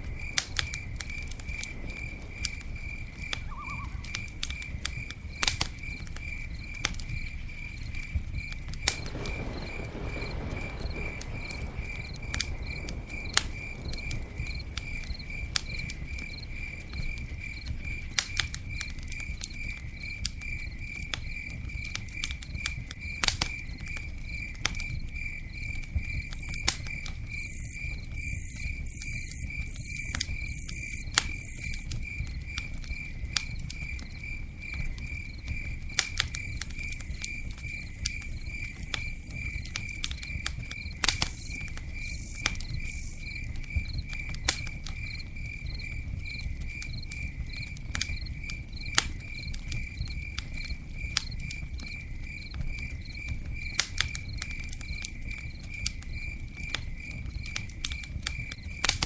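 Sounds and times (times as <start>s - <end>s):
campfire crackling: 0.0s - 59.0s
cricket chirping: 0.0s - 59.0s.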